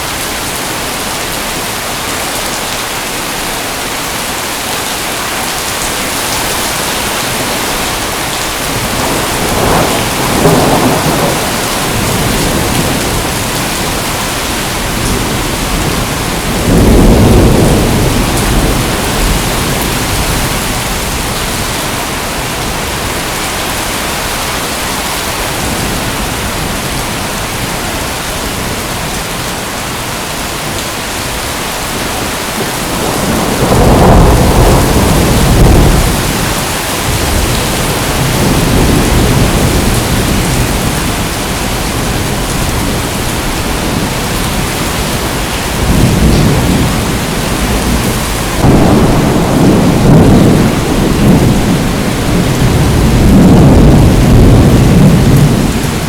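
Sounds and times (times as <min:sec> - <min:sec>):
steady rain falling: 0:00.0 - 0:56.0
thunder rumbling: 0:05.5 - 0:29.5, 0:30.5 - 0:56.0.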